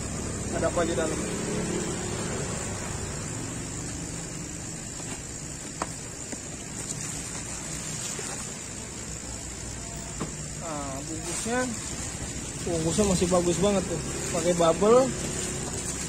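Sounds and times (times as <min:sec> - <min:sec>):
background rumble and hiss: 0:00.0 - 0:16.0.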